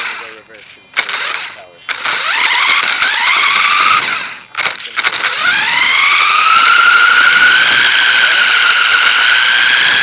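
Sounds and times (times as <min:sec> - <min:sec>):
electric motor whining: 0:00.0 - 0:00.4, 0:01.0 - 0:10.0.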